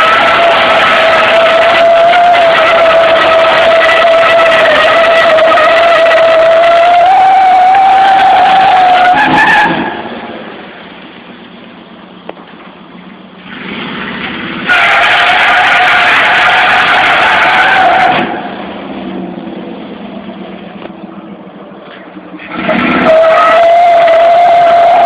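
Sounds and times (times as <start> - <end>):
tires spinning and squealing: 0.0 - 11.4, 13.0 - 21.0, 21.8 - 25.0
truck engine revving: 0.0 - 25.0.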